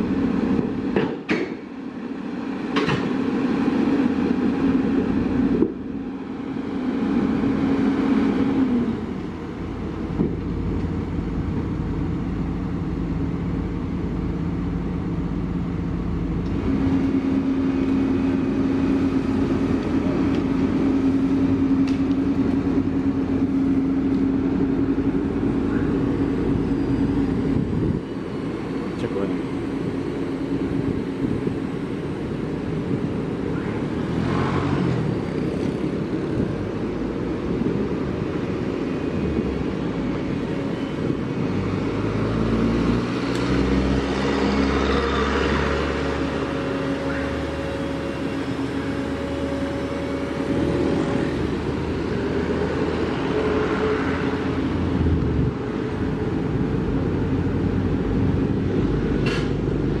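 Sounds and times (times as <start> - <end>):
excavator diesel engine under load: 0.0 - 60.0
hydraulic whine: 0.0 - 60.0.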